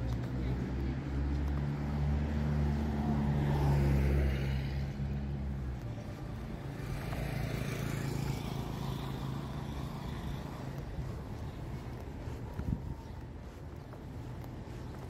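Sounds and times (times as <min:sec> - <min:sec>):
distant street traffic: 0:00.0 - 0:15.0.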